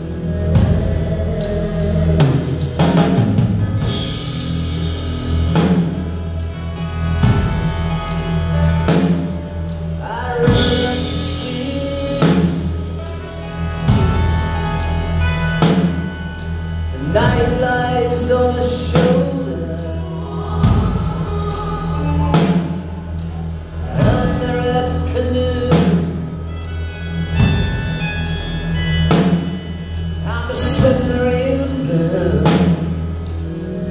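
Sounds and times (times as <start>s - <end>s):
live band playing: 0.0s - 33.9s
slow heavy drum beat: 0.0s - 33.9s.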